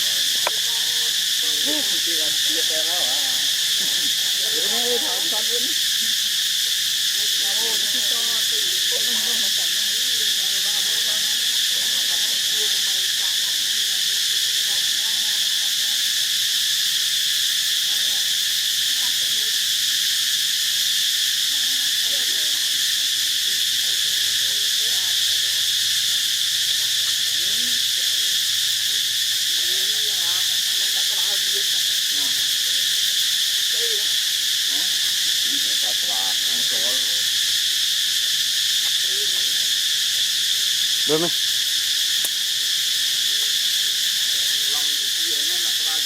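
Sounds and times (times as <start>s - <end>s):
high-pitched insect chorus: 0.0s - 46.0s.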